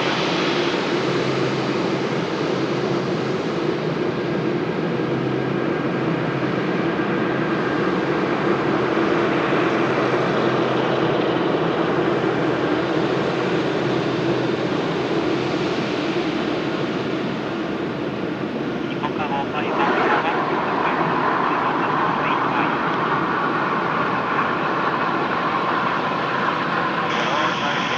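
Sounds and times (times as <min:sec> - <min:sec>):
jet airliner engines: 0:00.0 - 0:27.9.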